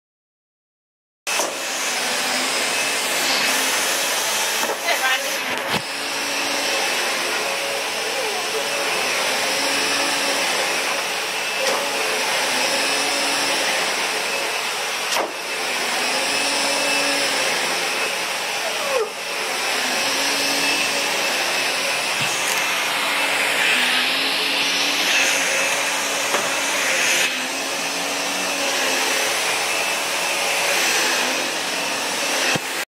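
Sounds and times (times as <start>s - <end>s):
vacuum cleaner running: 1.3s - 32.9s.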